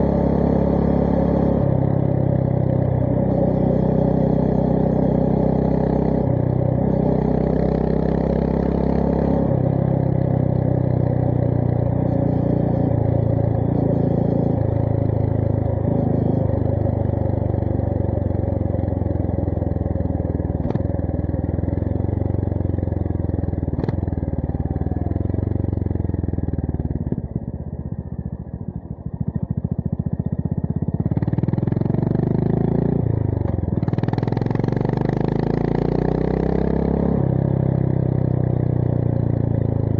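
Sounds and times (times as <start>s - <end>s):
motorcycle engine revving: 0.0s - 27.6s, 29.2s - 39.9s.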